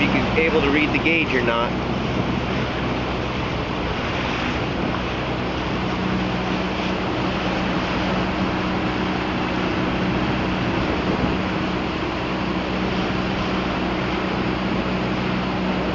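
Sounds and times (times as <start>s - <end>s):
outboard motor humming: 0.0s - 15.9s
rushing water: 0.0s - 15.9s
wind: 0.0s - 15.9s.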